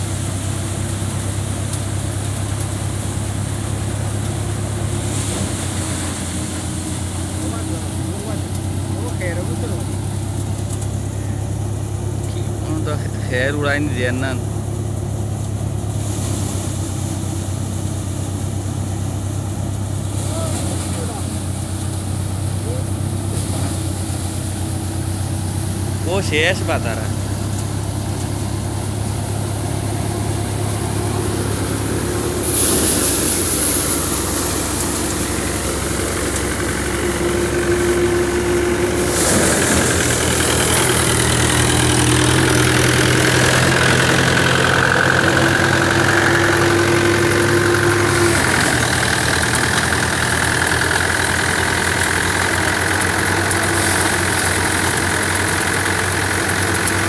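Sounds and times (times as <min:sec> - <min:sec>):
thresher drum running: 0:00.0 - 0:57.0
tractor diesel engine running: 0:00.0 - 0:57.0.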